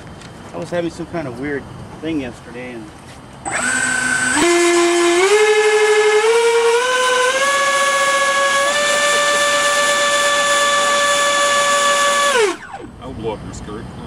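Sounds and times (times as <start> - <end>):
electric ducted fan whine: 0.0 - 14.0.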